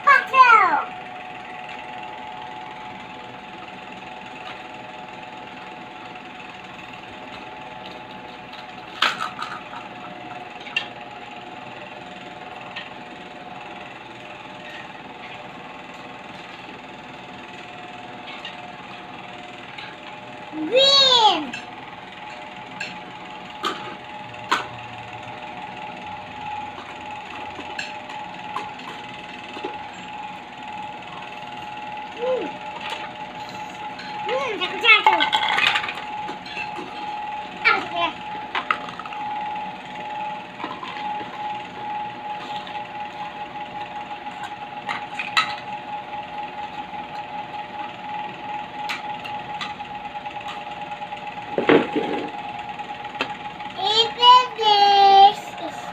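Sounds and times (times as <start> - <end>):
steady background hum: 0.0 - 55.9.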